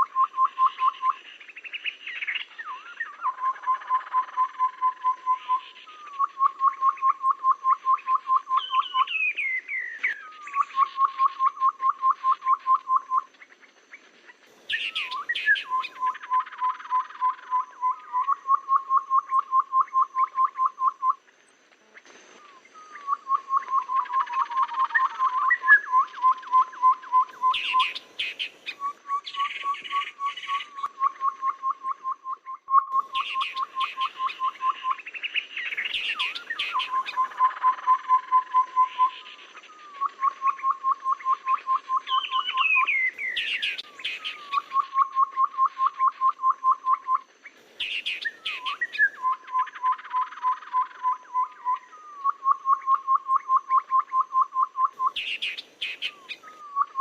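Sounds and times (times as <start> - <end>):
bird chirps and calls: 0.0 - 13.8, 14.4 - 21.2, 21.8 - 57.0
low whistled bird notes: 1.8 - 13.3, 14.7 - 21.2, 22.4 - 47.2, 47.8 - 57.0.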